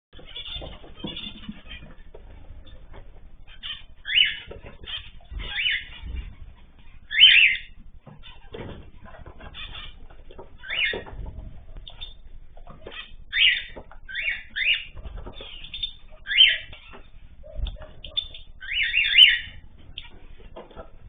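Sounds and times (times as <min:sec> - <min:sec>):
birds calling loudly: 0:00.2 - 0:21.0
wings flapping: 0:00.2 - 0:21.0.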